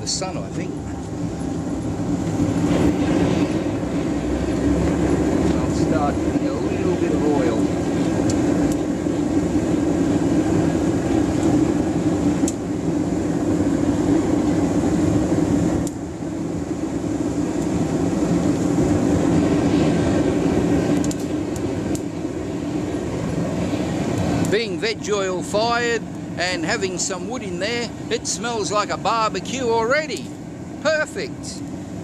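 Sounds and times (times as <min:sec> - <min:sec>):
furnace burner rumble: 0:00.0 - 0:32.0.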